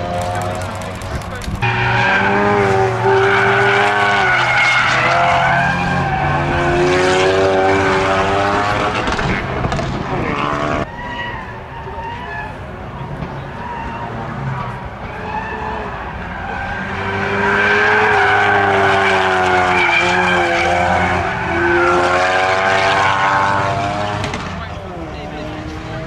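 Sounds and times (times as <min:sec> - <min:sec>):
car engine under hard throttle: 0:00.0 - 0:26.0.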